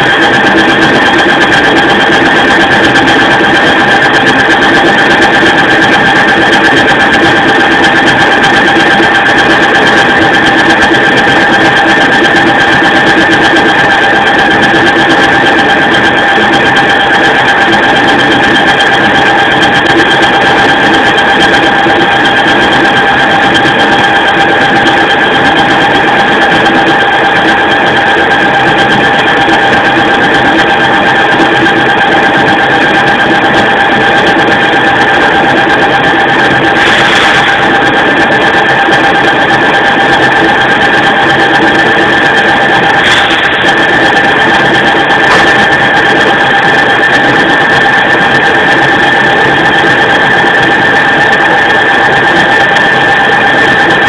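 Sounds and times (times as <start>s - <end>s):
lathe machining whine: 0.0s - 54.0s.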